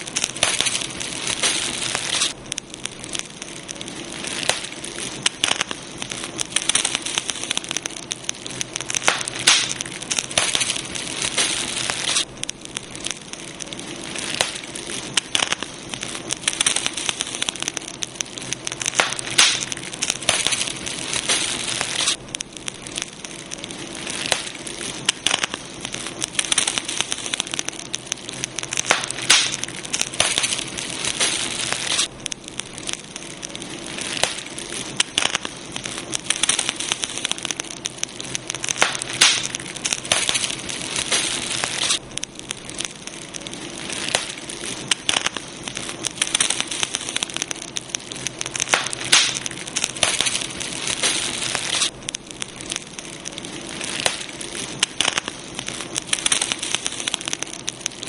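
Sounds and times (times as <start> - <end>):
campfire crackling and popping: 0.0 - 58.0
campfire hiss: 0.0 - 58.0.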